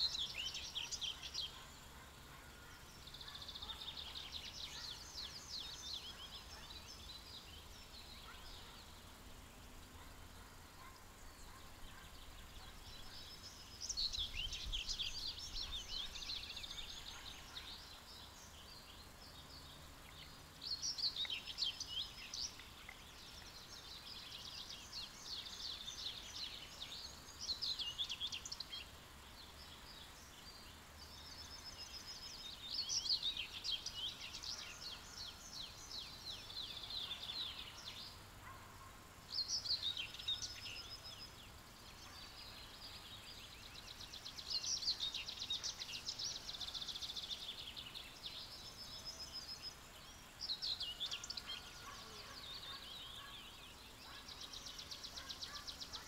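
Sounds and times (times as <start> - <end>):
faint outdoor hiss: 0.0 - 56.0
songbirds trilling: 0.0 - 56.0.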